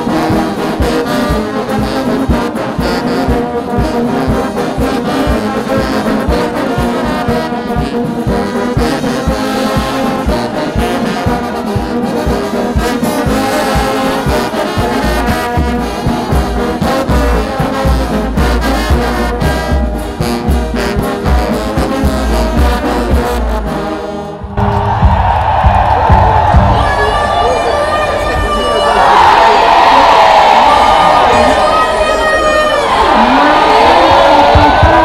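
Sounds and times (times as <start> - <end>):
brass band playing: 0.0 - 35.0.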